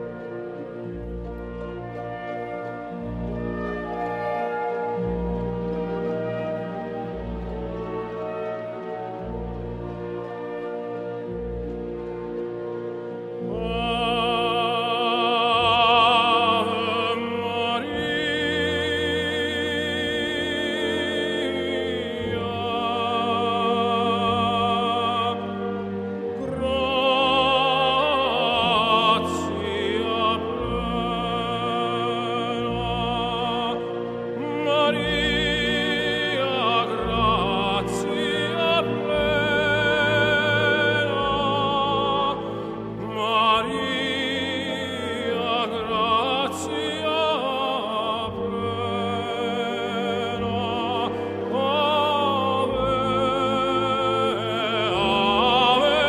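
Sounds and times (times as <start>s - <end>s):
operatic singing: 0.0s - 56.0s
orchestral accompaniment: 0.0s - 56.0s.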